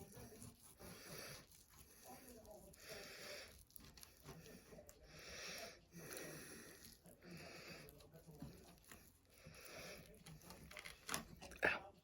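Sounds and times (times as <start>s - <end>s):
faint breathing: 0.4s - 10.8s.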